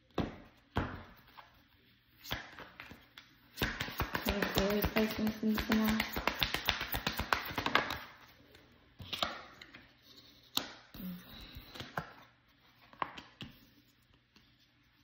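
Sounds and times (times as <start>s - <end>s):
cards being shuffled: 1.2s - 8.3s, 9.0s - 15.0s.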